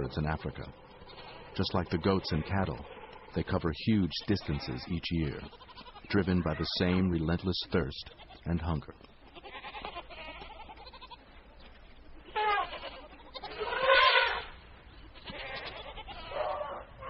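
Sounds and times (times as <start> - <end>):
goats bleating: 0.0 - 11.4, 12.1 - 17.0.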